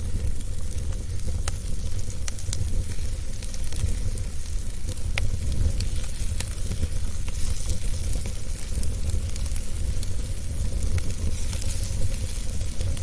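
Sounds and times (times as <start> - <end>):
fire low rumble: 0.0 - 13.0
wood fire crackling and popping: 0.0 - 13.0.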